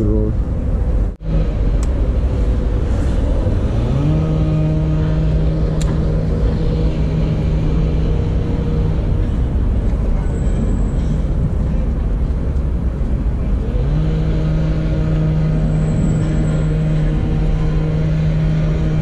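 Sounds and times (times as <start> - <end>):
engine hum: 0.0 - 19.0
low rumble: 0.0 - 19.0.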